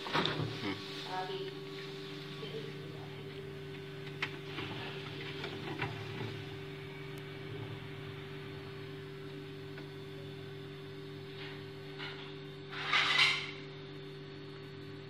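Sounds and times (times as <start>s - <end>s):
refrigerator humming: 0.0s - 15.0s.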